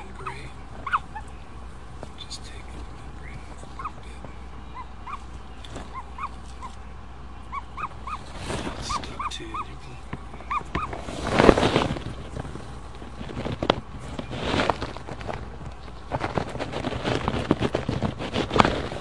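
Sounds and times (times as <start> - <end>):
chick peeping: 0.0 - 19.0.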